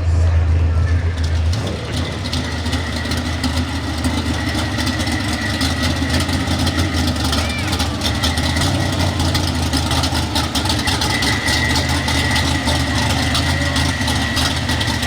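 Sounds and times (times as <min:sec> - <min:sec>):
pulling truck engine running: 0:00.0 - 0:15.0.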